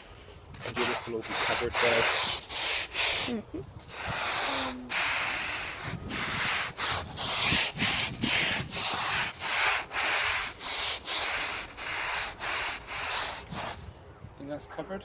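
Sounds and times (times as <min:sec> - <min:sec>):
stiff broom scrubbing stone: 0:00.6 - 0:13.8.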